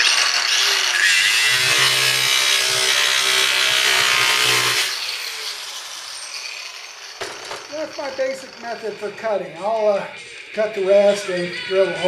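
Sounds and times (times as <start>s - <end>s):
grinder winding down: 0.0s - 11.4s
angle grinder cutting metal: 0.0s - 12.0s.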